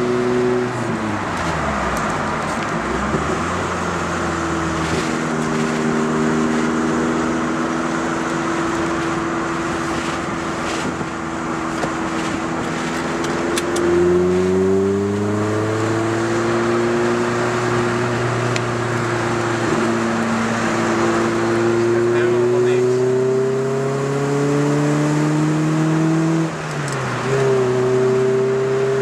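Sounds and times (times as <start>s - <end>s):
car engine and exhaust: 0.0s - 29.0s
road noise: 0.0s - 29.0s.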